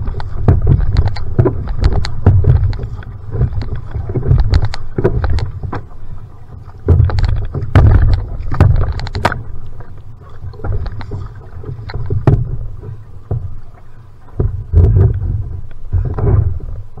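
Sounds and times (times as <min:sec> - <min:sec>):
paddle splashing in water: 0:00.0 - 0:17.0
wind buffeting microphone: 0:00.0 - 0:17.0.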